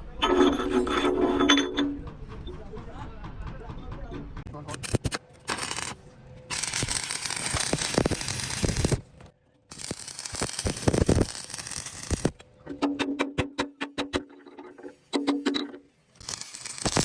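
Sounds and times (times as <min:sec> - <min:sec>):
harsh crackling metalworking noise: 0:00.0 - 0:02.2, 0:04.5 - 0:17.0.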